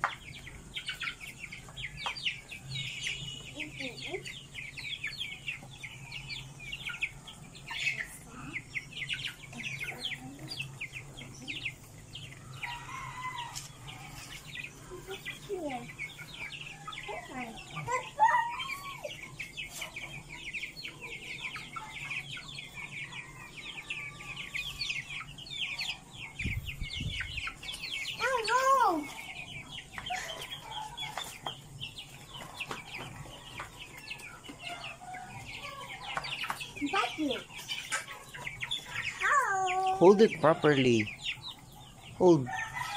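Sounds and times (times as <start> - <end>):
chickens clucking: 0.0 - 42.9
chickens peeping: 0.0 - 42.9.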